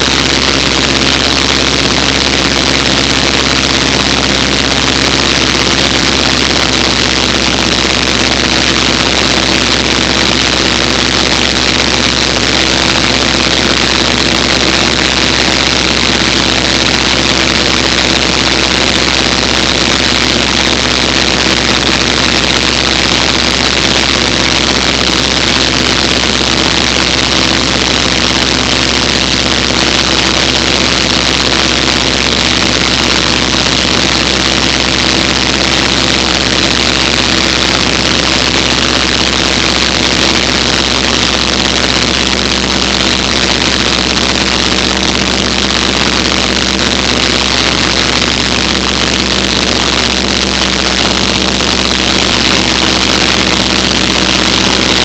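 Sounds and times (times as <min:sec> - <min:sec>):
airplane engine and propeller: 0:00.0 - 0:55.0.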